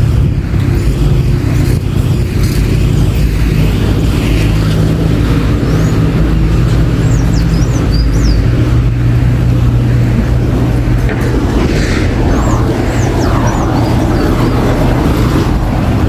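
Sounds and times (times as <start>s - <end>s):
motor vehicle engines droning: 0.0s - 16.0s
traffic rumble: 0.0s - 16.0s.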